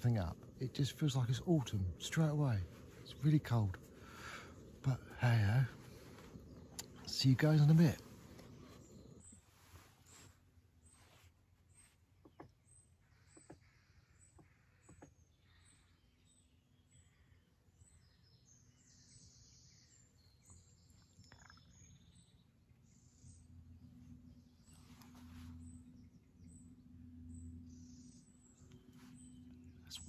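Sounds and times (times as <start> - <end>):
faint birdsong: 0.0 - 30.0.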